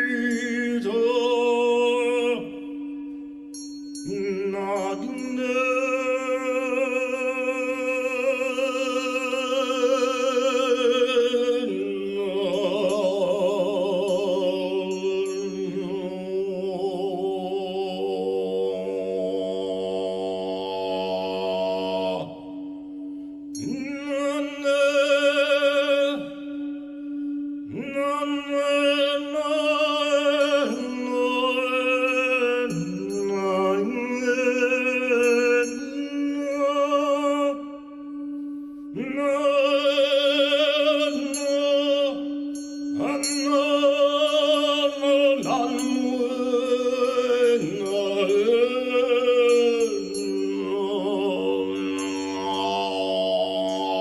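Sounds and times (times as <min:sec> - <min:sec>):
person singing long vowel tones: 0:00.0 - 0:02.8, 0:03.5 - 0:22.6, 0:23.6 - 0:26.9, 0:27.7 - 0:38.1, 0:38.9 - 0:54.0.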